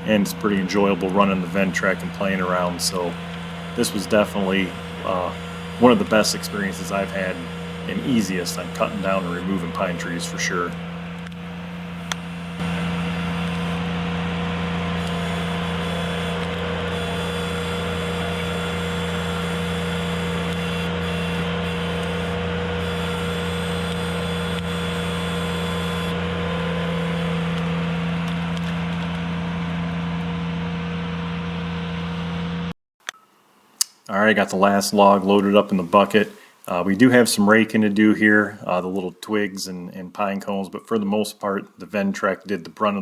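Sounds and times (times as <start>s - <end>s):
tractor engine running: 0.0s - 32.7s, 34.2s - 41.2s.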